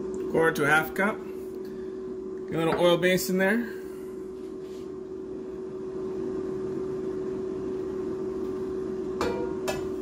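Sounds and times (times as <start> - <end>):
air fryer fan humming: 0.0 - 10.0.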